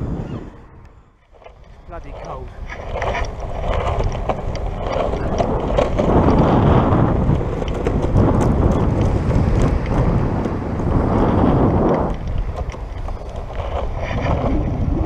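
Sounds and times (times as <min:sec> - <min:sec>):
wind buffeting microphone: 0:00.0 - 0:15.0
longboard wheels rolling on concrete: 0:01.1 - 0:15.0.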